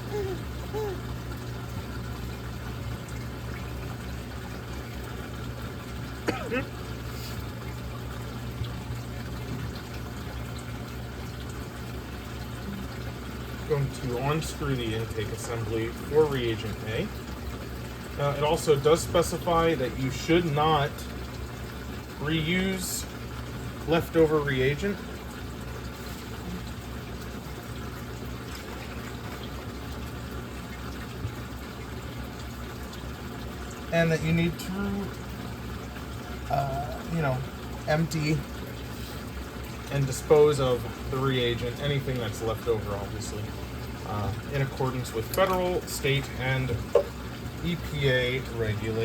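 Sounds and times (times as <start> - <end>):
circulating water rushing: 0.0 - 49.0
low pump hum: 0.0 - 49.0.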